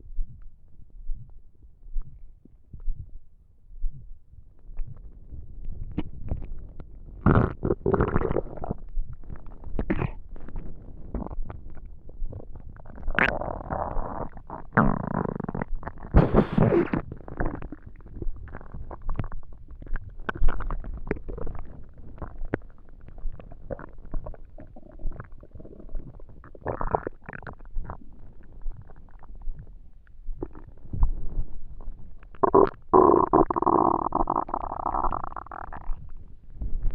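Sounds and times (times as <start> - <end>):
stomach rumbling and gurgling: 0.0 - 36.9.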